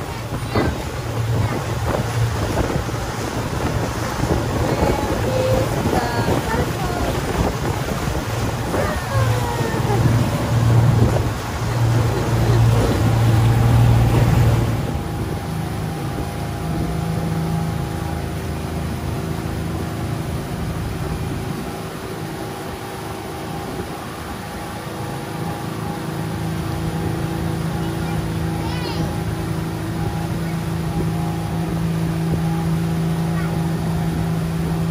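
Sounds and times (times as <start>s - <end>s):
motorboat engine running: 0.0s - 34.9s
rush of wind and water: 0.0s - 34.9s.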